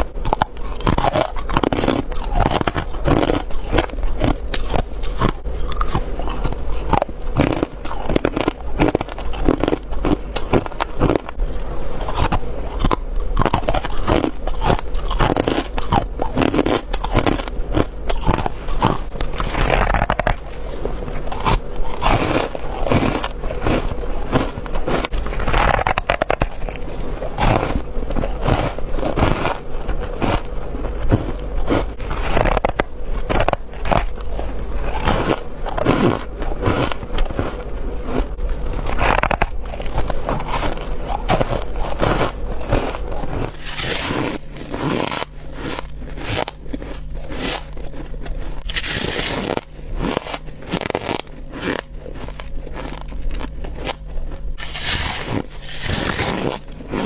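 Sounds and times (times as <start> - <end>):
person chewing frost: 0.0 - 57.0.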